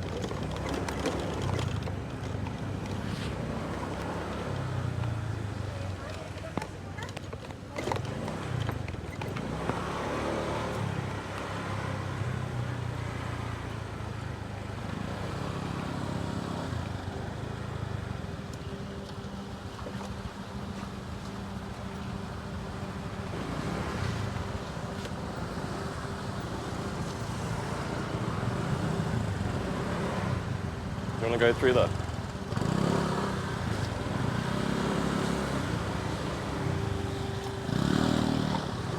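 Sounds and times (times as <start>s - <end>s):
road and traffic noise: 0.0s - 38.9s.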